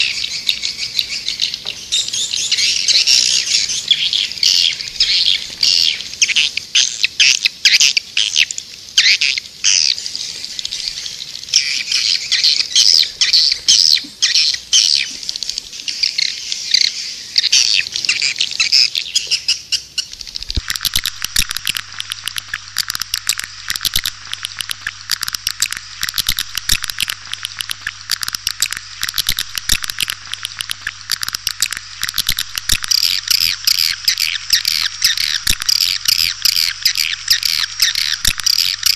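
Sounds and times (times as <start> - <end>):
swiftlets chirping and twittering: 0.0 - 38.9.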